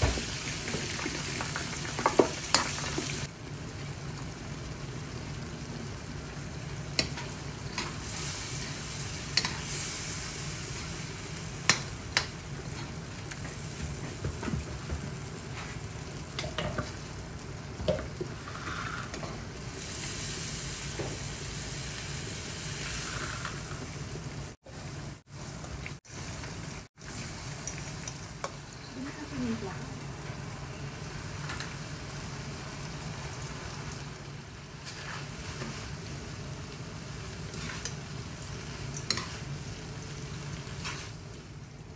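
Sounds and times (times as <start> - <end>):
prawns sizzling in a wok: 0.0 - 41.9.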